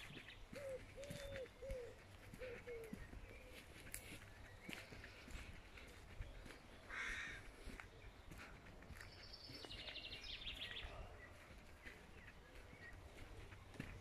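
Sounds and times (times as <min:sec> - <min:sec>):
birdsong: 0:00.0 - 0:14.0
footsteps on dirt path: 0:00.0 - 0:14.0.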